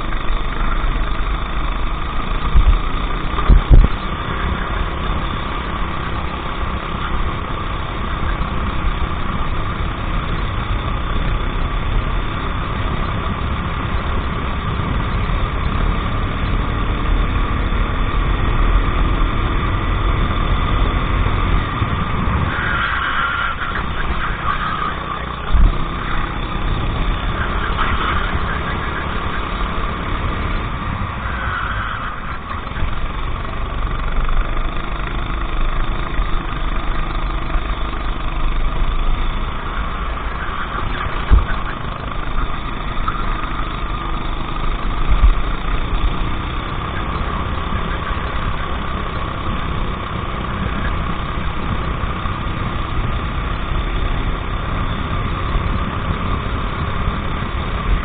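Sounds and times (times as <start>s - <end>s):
go-kart engine idling: 0.0s - 58.0s.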